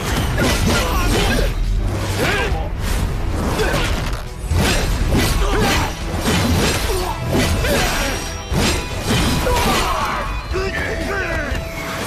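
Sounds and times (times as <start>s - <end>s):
dramatic orchestral score: 0.0s - 12.0s.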